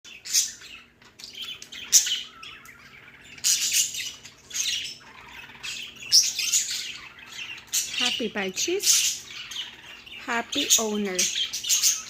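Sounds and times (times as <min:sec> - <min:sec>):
budgies chirping: 0:00.1 - 0:12.0.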